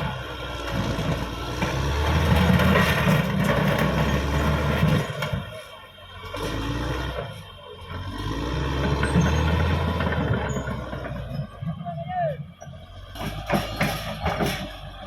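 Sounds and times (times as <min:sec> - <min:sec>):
bulldozer diesel engine under load: 0:00.0 - 0:15.0.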